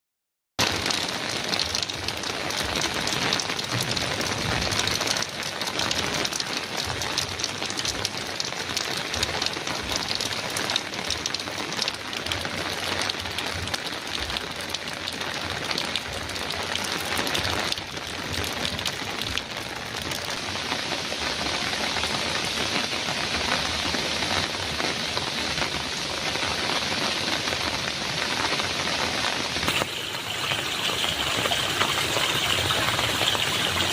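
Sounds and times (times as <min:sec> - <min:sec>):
heavy rain on a metal roof: 0:00.6 - 0:33.9.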